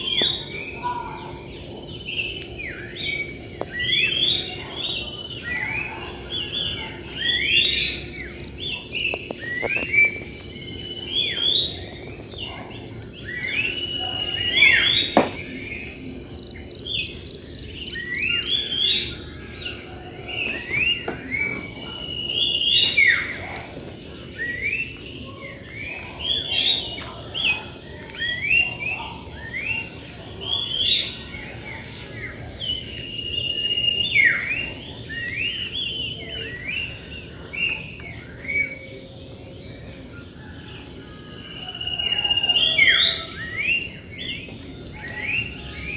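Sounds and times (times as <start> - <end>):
birds chirping and singing: 0.0 - 45.9.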